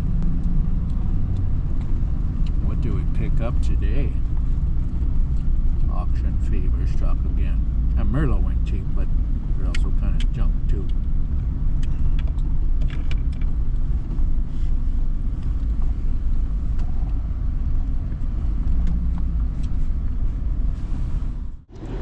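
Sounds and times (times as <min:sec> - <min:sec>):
vehicle driving rumble: 0:00.0 - 0:22.0.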